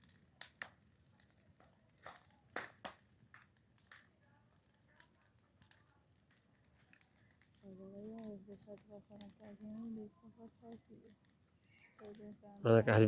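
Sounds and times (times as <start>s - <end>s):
bonfire crackling: 0.0s - 13.0s.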